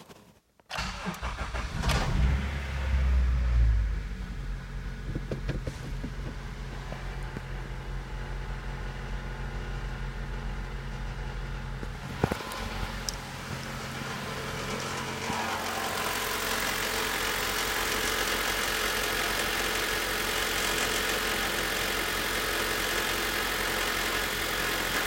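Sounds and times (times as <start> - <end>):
car engine idling: 0.8 - 25.0.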